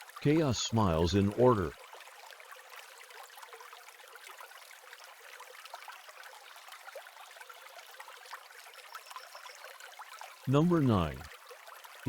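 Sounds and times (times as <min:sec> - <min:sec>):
water splashes and drips: 0:00.0 - 0:12.0
water trickling: 0:00.0 - 0:12.0.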